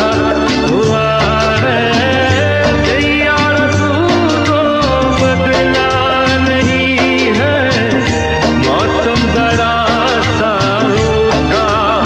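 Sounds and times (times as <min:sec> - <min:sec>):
film song with singing voice: 0:00.0 - 0:12.0
steady beat and bass: 0:00.0 - 0:12.0.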